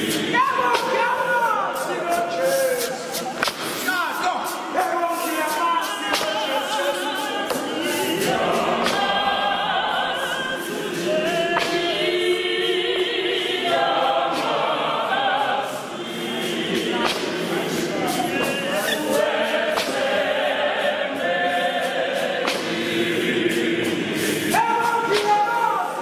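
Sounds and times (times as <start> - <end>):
choir and congregation singing: 0.0 - 26.0.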